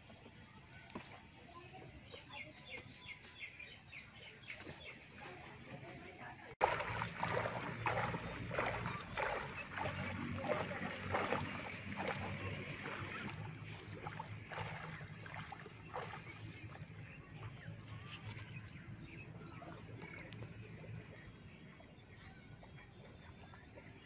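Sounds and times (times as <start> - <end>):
water sloshing from wading: 3.6 - 24.0.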